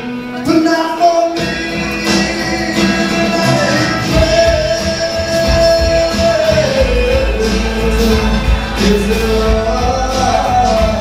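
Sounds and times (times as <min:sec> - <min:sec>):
live pop backing music: 0:00.0 - 0:11.0
man singing long notes: 0:00.2 - 0:11.0.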